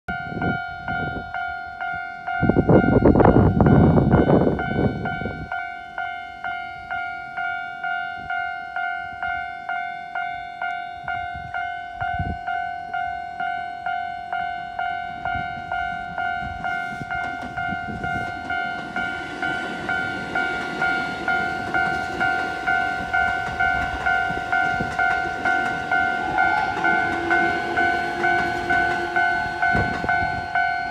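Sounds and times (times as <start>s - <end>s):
electric train passing: 0.1s - 30.9s
level-crossing alarm bell: 0.1s - 30.9s.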